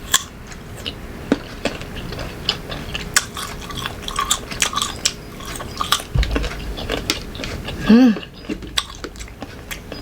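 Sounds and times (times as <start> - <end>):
chewing crunchy mango: 0.0 - 10.0.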